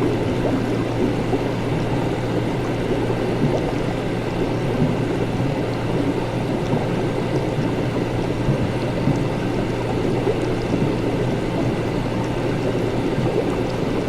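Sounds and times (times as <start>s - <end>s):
liquid bubbling and gurgling: 0.0s - 14.0s
low equipment hum: 0.0s - 14.0s.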